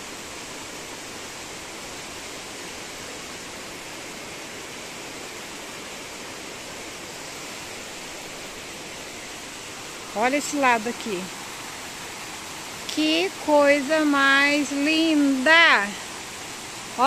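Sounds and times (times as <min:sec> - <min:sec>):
stream cascading over boulders: 0:00.0 - 0:17.0.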